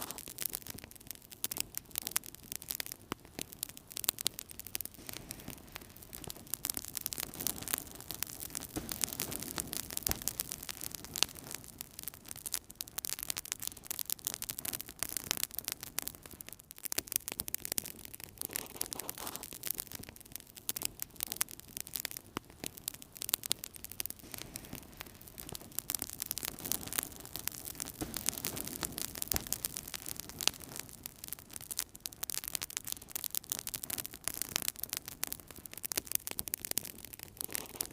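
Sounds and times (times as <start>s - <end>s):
flames hissing: 0.0s - 0.8s, 1.4s - 16.3s, 18.0s - 20.0s, 20.7s - 37.9s
wood fire crackling: 0.0s - 37.9s.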